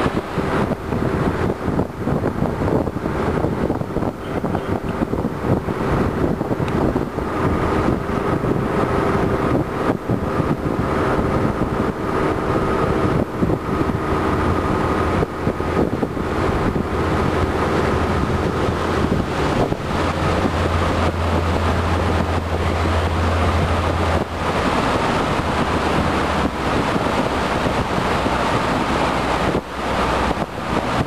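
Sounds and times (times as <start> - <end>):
motorboat engine running: 0.0 - 31.0
wind on microphone: 0.0 - 31.0.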